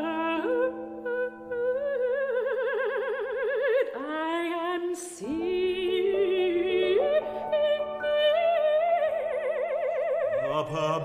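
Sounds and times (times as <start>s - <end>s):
woman singing operatically: 0.0s - 11.0s.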